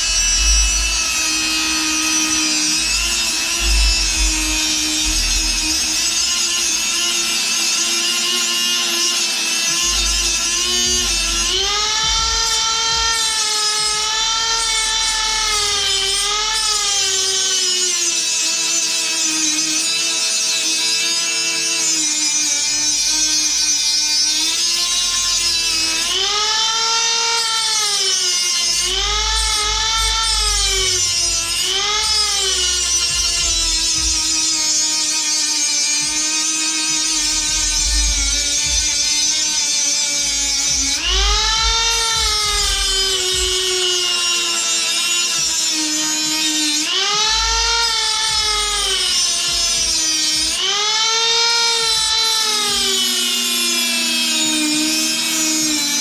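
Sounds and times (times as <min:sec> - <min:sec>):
rotary tool grinding metal: 0:00.0 - 0:56.0.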